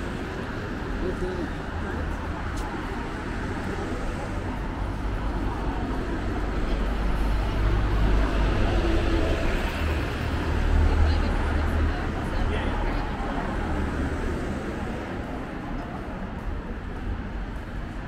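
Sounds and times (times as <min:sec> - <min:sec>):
bus passing: 0:00.0 - 0:18.0
cars passing: 0:00.0 - 0:18.0.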